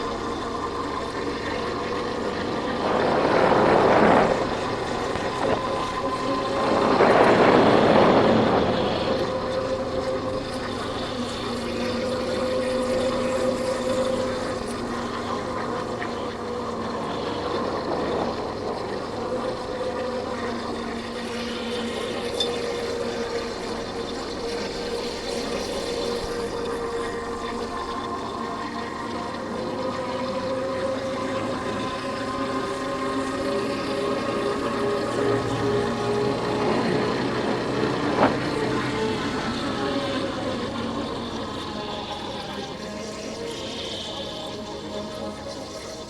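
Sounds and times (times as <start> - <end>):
rush of noise: 0.0 - 22.2, 30.3 - 46.0
wind noise: 0.0 - 29.8, 30.9 - 43.0.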